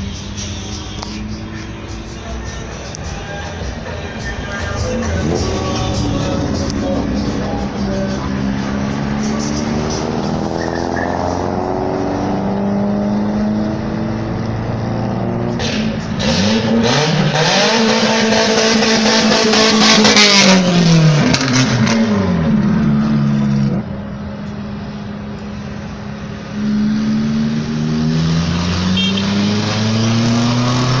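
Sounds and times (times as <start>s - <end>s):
other engines running: 0.0s - 10.7s, 13.1s - 28.2s, 28.8s - 30.0s
car engine revving: 0.0s - 31.0s.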